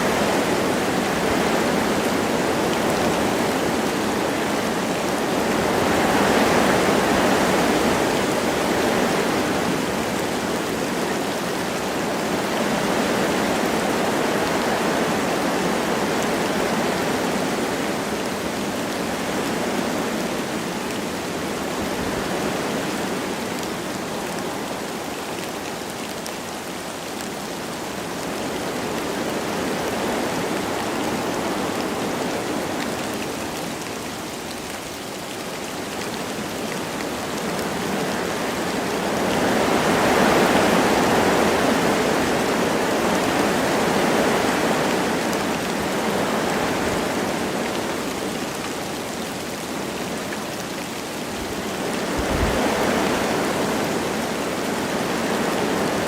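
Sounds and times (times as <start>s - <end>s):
light rain falling: 0.0s - 56.0s
wind through trees: 0.0s - 56.0s.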